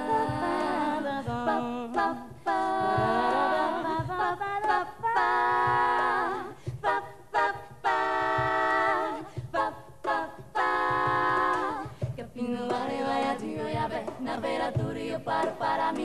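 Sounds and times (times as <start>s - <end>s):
soft cajon beats: 0.0s - 16.0s
women singing a cappella: 0.0s - 16.0s.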